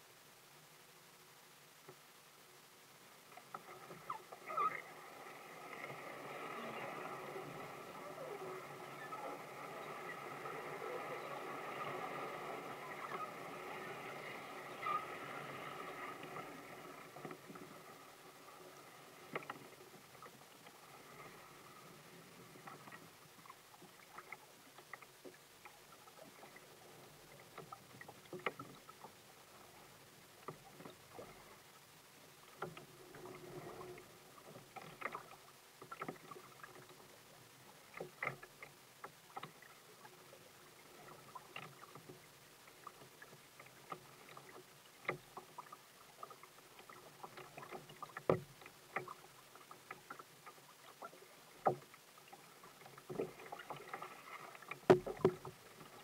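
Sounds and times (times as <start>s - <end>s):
water lapping against a kayak: 0.0s - 56.0s.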